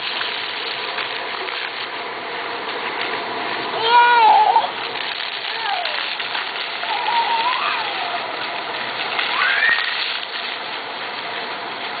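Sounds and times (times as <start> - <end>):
water fountain splashing: 0.0 - 12.0.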